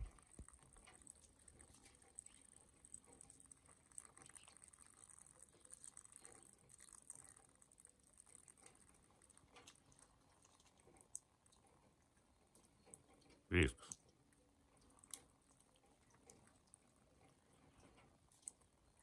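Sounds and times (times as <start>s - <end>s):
faint ticks and rustles: 0.0s - 19.0s.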